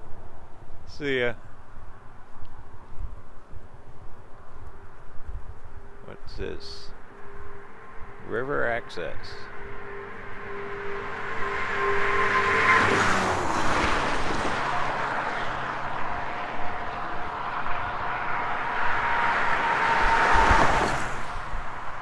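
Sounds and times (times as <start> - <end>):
cars passing at highway speed: 0.0 - 22.0.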